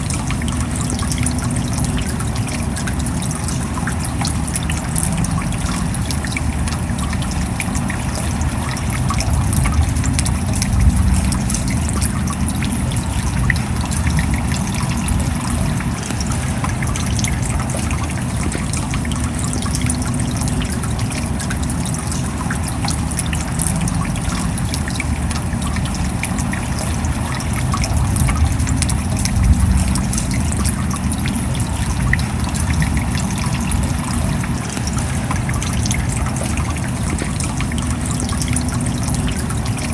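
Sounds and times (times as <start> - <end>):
steady rain: 0.0 - 39.9
water trickling: 0.0 - 39.9.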